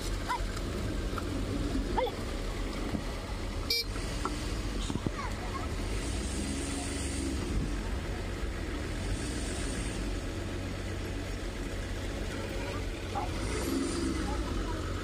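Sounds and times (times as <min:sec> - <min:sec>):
diesel engine running low: 0:00.0 - 0:15.0.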